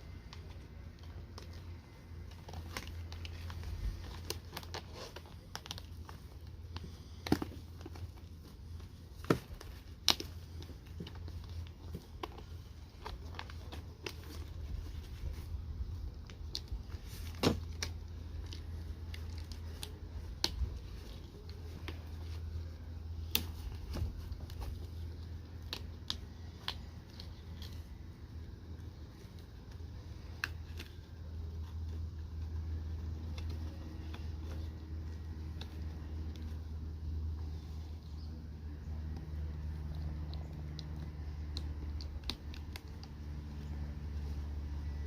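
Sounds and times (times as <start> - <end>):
packaging crinkling and tearing: 0.1 - 36.7.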